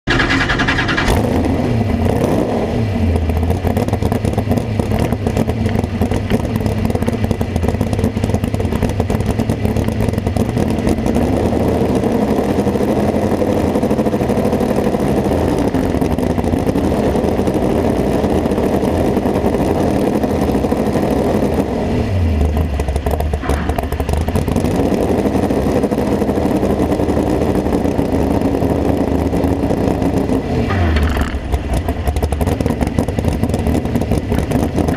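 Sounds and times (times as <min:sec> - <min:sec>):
tractor engine idling and revving: 0:00.0 - 0:34.9.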